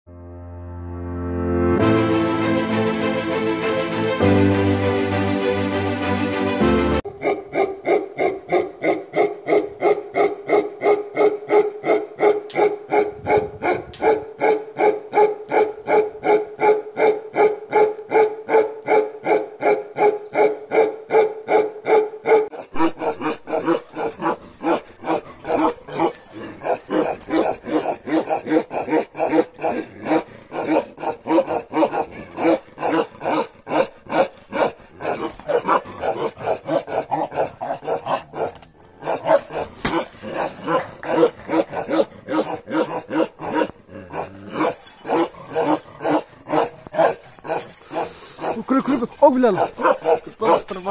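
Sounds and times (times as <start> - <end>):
dogs barking: 7.1 - 50.9.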